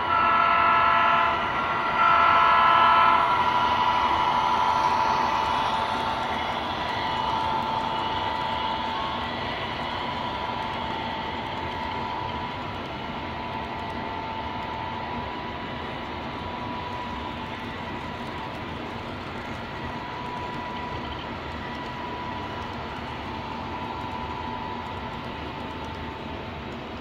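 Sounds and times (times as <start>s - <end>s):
model train wheels on rail: 0.0s - 27.0s
thin steady whine: 0.0s - 27.0s.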